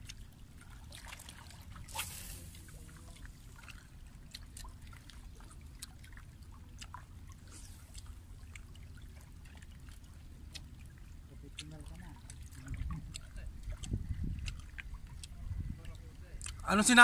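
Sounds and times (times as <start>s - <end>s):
low steady rumble: 0.0s - 17.0s
water splashes and drips: 0.0s - 17.0s.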